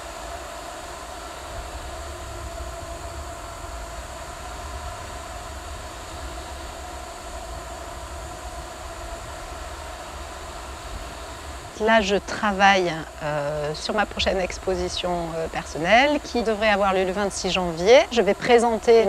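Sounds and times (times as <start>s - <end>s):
faint hum: 0.0s - 19.0s
machinery rumble: 1.5s - 19.0s.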